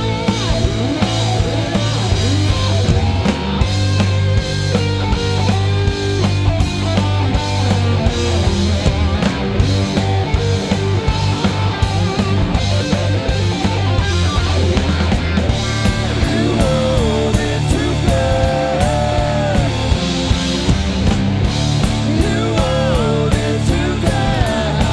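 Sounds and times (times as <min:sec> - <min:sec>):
rock band playing live: 0:00.0 - 0:24.9.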